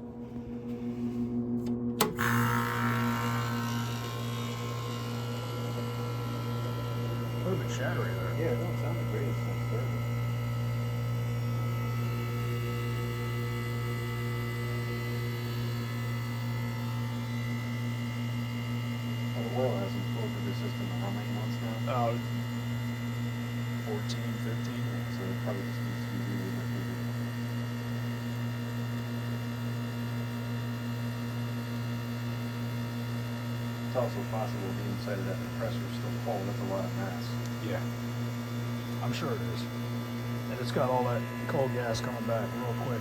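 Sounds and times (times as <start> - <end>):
air conditioner humming: 0.0 - 43.0.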